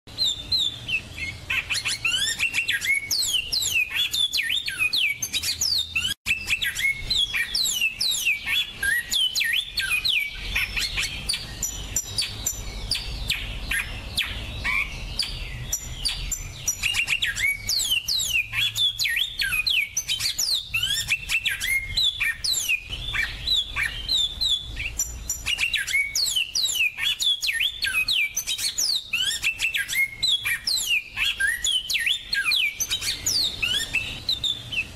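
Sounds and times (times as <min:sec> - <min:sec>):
finches chirping and trilling: 0:00.1 - 0:34.9.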